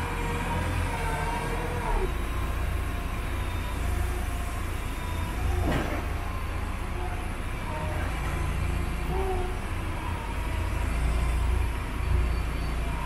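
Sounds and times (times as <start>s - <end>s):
forklift engine rumbling: 0.0s - 13.0s.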